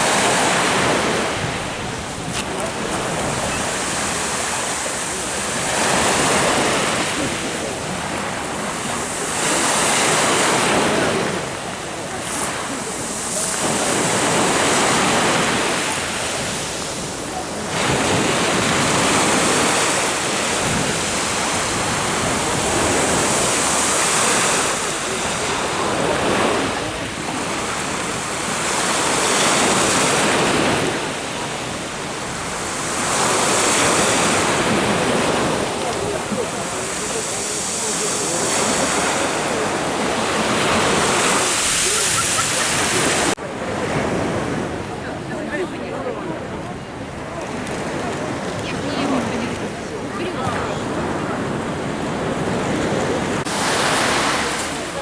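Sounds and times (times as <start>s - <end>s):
wind on microphone: 0.0s - 45.0s
waves breaking on shore: 0.0s - 55.0s.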